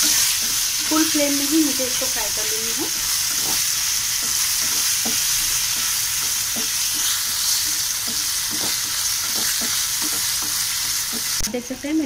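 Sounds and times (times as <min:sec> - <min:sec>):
cheese sizzling in oil: 0:00.0 - 0:12.0.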